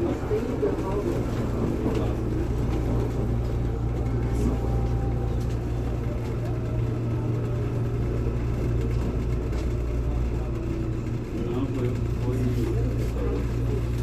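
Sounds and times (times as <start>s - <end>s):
electric train droning: 0.0s - 14.0s.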